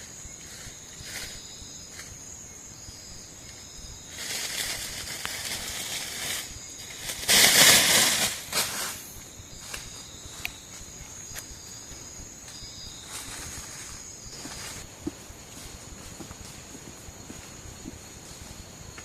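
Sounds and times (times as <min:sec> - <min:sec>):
night insects chirring: 0:00.0 - 0:19.0
rustling noise: 0:03.5 - 0:19.0.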